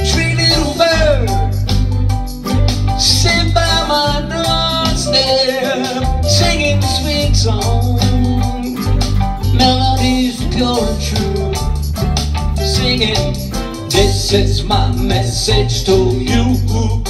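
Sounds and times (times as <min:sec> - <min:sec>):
man singing: 0:00.0 - 0:01.8, 0:02.9 - 0:17.0
acoustic guitar strumming: 0:00.0 - 0:17.0.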